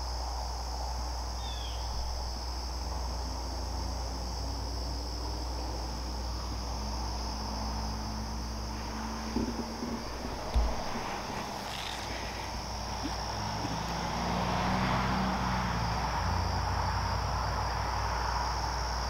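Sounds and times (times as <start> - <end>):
crickets and insects trilling: 0.0 - 19.0
low steady hum: 0.0 - 19.0.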